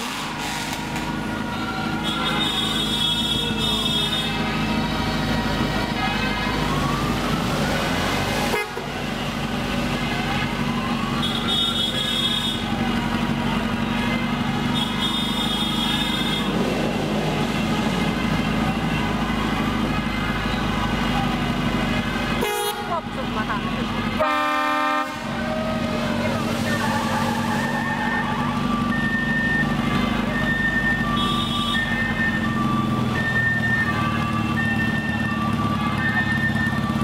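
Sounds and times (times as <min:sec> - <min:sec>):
horns sounding: 0:00.0 - 0:37.0
motorcycle engines running: 0:00.0 - 0:37.0.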